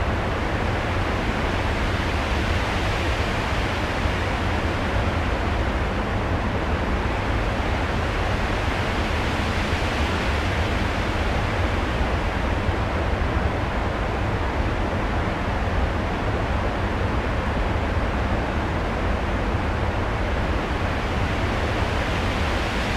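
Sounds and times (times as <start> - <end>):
wind-like rushing with deep rumble: 0.0 - 22.9.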